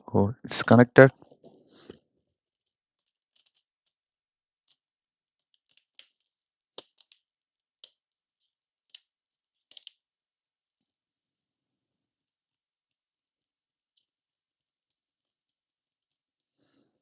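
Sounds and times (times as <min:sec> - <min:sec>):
faint plastic clicks and scrapes: 0:01.2 - 0:04.0, 0:04.6 - 0:17.0.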